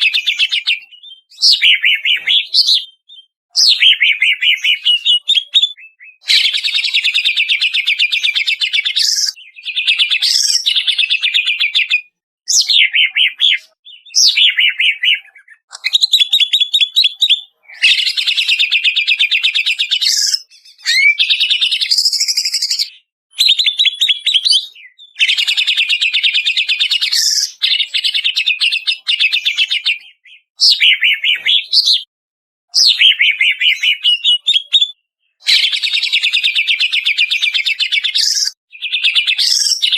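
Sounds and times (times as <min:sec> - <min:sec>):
bird singing chattering phrases: 0:00.0 - 0:32.1, 0:32.7 - 0:39.9.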